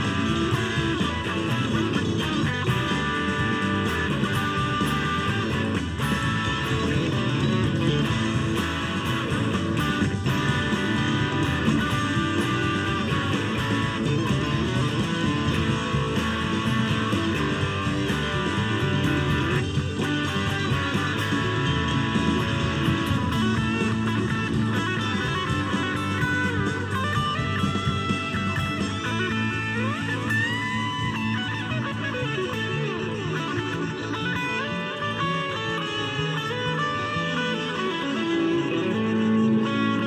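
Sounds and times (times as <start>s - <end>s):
electric guitar lead lines: 0.0s - 40.0s
rock band with drums and bass: 0.0s - 40.0s.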